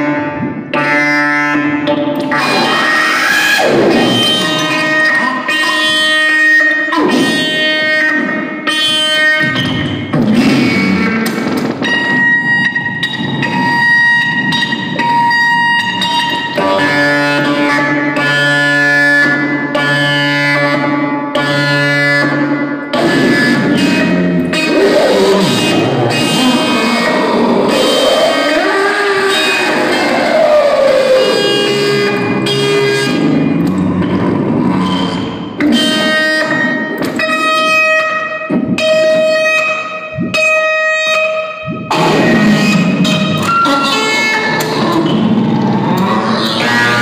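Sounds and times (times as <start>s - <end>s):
loud sustained droning tones: 0.0s - 21.0s, 21.6s - 47.0s.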